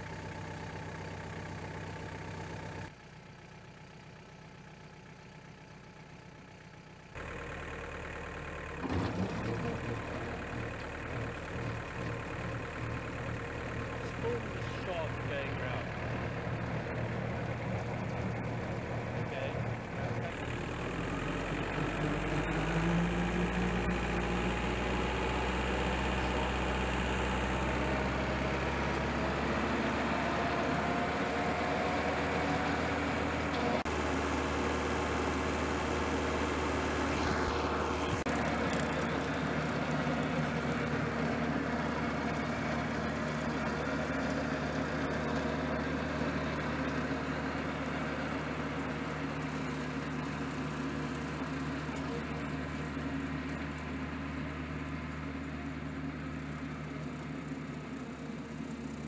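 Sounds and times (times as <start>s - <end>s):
tractor engine revving: 7.2s - 55.4s.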